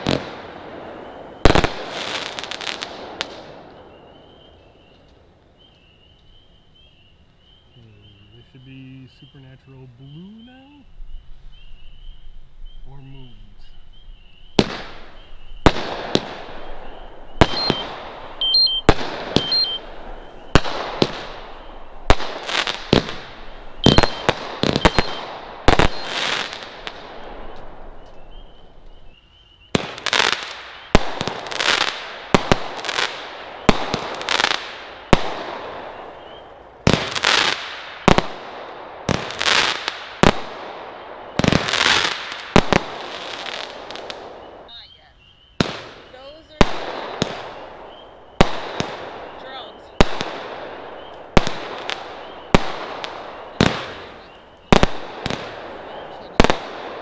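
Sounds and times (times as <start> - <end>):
firework shots banging: 0.0 - 5.2, 14.5 - 44.7, 45.6 - 57.0
crackling hissing firework tails: 0.0 - 57.0.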